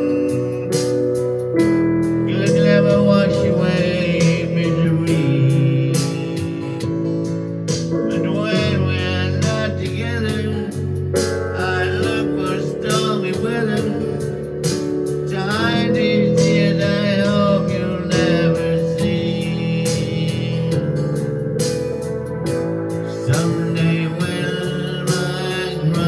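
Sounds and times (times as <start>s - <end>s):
electronic keyboard: 0.0s - 26.0s
guitar: 0.0s - 26.0s
man singing pop ballad: 0.0s - 26.0s.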